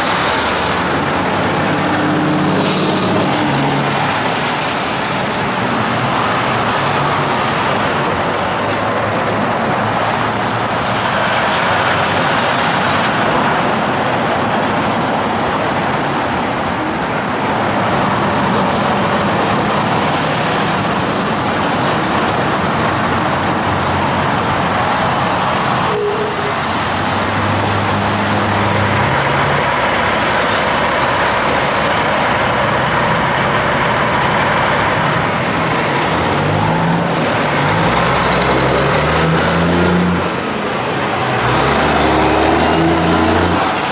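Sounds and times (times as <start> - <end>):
heavy engine droning: 0.0 - 43.9
highway traffic: 0.0 - 43.9.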